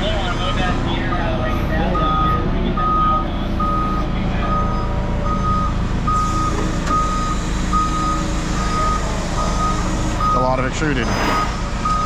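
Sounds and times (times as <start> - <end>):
engine rumble: 0.0 - 12.0
reversing alarm beeping: 0.2 - 12.0.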